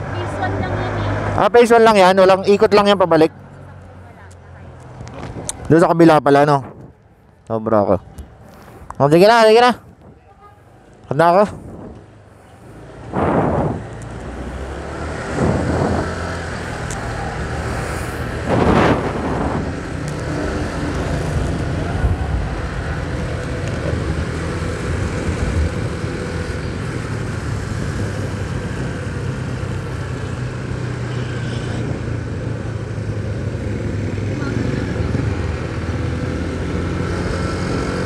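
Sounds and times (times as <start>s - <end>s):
road and wind noise: 0.0s - 38.0s.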